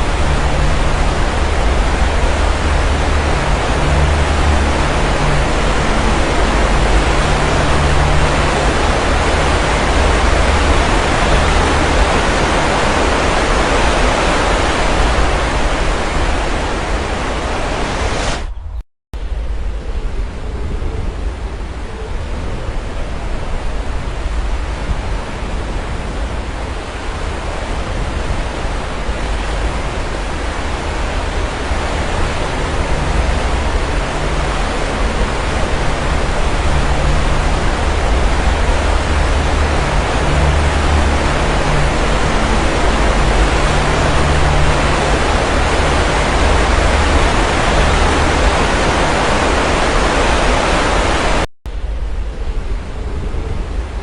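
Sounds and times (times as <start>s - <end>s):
sea waves surging: 0.0s - 18.6s, 20.6s - 54.0s.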